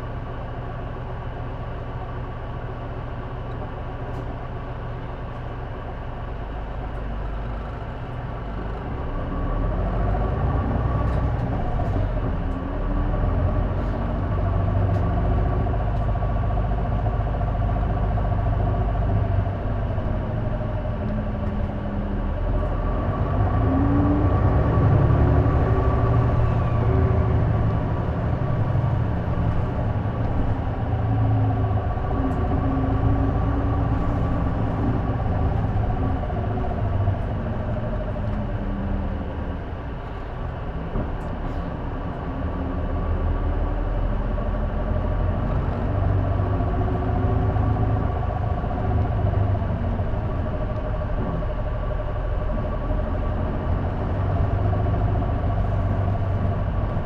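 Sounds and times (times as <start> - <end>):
bus engine rising and falling: 0.0 - 57.0.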